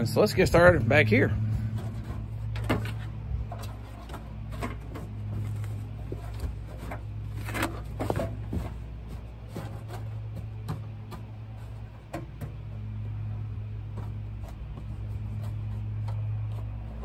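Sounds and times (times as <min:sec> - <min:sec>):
steady low hum: 0:00.0 - 0:17.0
carpet rustling and scraping: 0:00.1 - 0:17.0.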